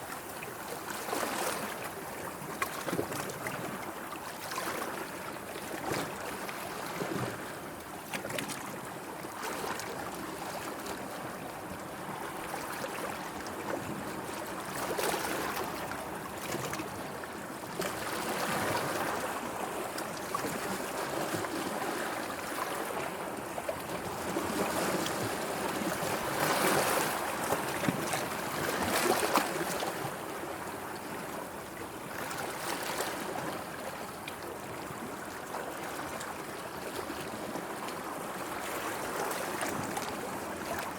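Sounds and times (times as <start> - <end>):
small waves lapping: 0.0 - 40.9.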